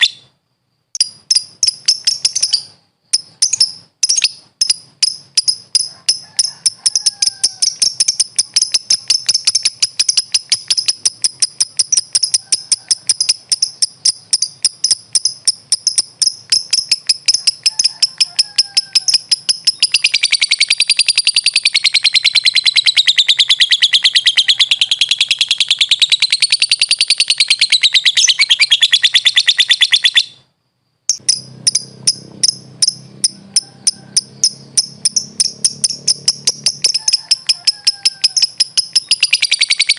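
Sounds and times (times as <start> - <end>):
bird chirping: 0.0 - 39.9
bird wavering chatter: 1.2 - 30.4, 31.1 - 39.9.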